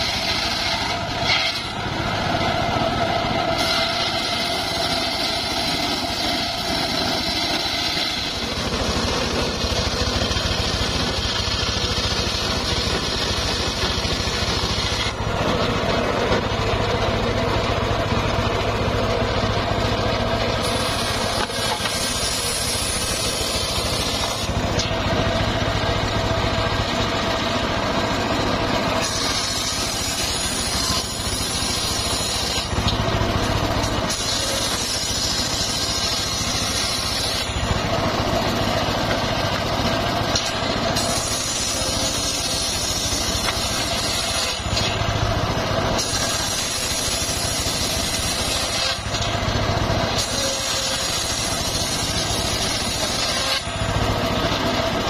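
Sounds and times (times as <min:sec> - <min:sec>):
circular sawmill cutting timber: 0:00.0 - 0:55.0.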